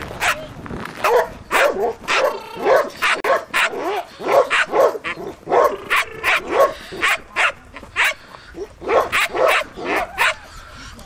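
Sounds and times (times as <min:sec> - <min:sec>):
dog barking: 0:01.0 - 0:10.4.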